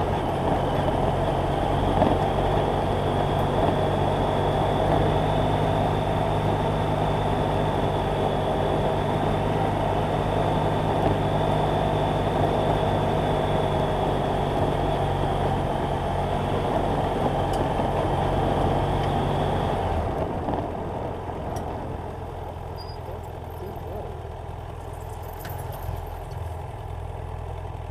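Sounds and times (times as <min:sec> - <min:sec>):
motorcycle engine running: 0:00.0 - 0:27.9
wind and road noise: 0:00.0 - 0:27.9.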